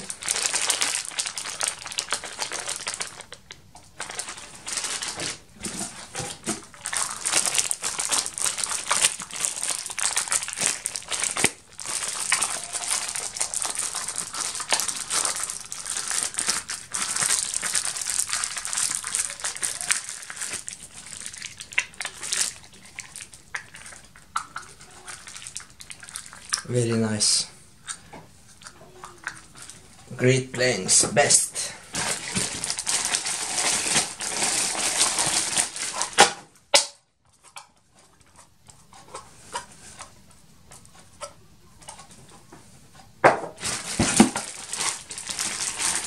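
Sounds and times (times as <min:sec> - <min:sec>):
plastic bags crinkling: 0:00.0 - 0:28.1, 0:29.2 - 0:36.6, 0:43.5 - 0:46.0.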